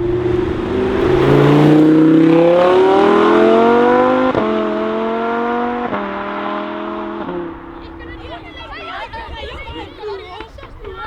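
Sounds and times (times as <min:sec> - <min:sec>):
car engine accelerating hard: 0:00.0 - 0:08.9.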